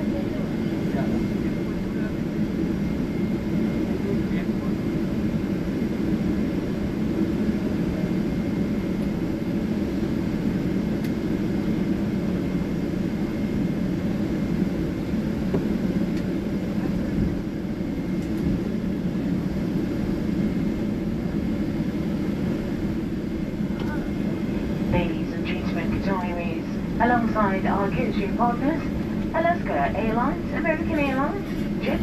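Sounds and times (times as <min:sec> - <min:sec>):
low rumble inside aircraft cabin: 0:00.0 - 0:32.0.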